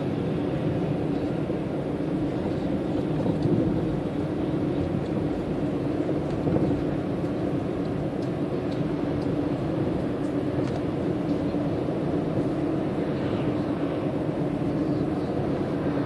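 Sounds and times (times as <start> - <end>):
car driving rumble: 0.1 - 16.0.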